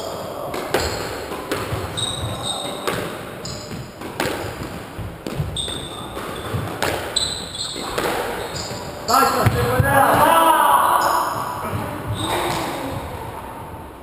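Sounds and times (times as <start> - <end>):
squash ball hitting rackets and walls: 0.0 - 13.3
shoes squeaking on wooden floor: 0.6 - 10.4, 11.0 - 13.3.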